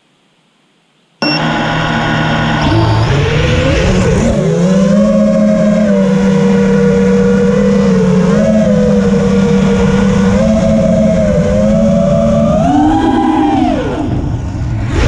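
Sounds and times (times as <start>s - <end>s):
quadcopter motors buzzing: 1.2s - 15.0s.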